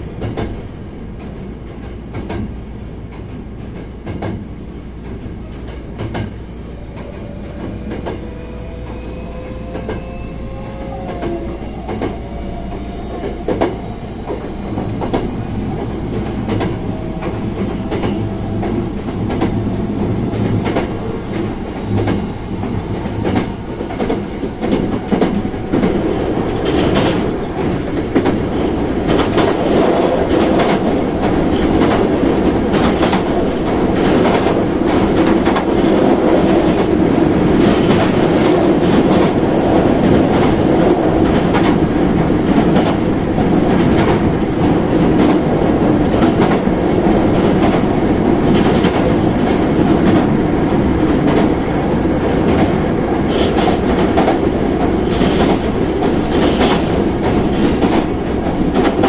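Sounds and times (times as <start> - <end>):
rail joint clicks: 0.0 - 59.0
train wheels rumbling on rail: 0.0 - 59.0.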